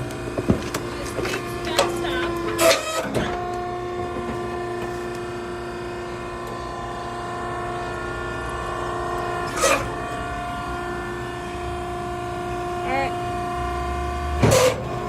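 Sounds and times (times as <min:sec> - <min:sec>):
hydraulic power unit humming: 0:00.0 - 0:15.0.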